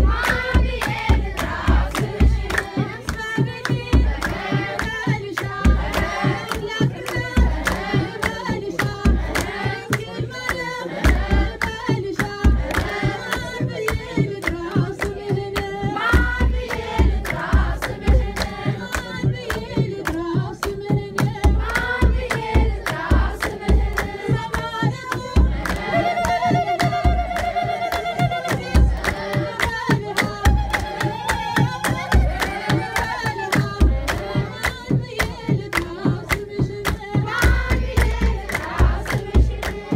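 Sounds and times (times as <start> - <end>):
deep drum beat: 0.0 - 39.9
hand clapping: 0.0 - 39.9
women singing a hymn: 0.0 - 39.9.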